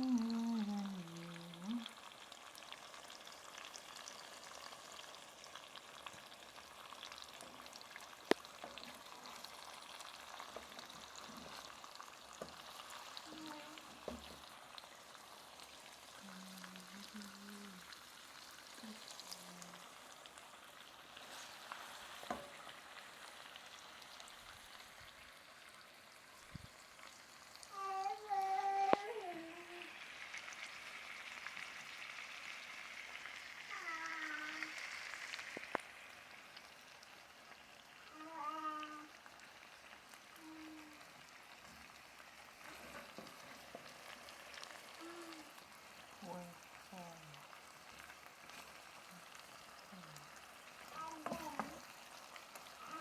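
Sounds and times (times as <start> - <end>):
food sizzling in a pan: 0.0 - 53.0.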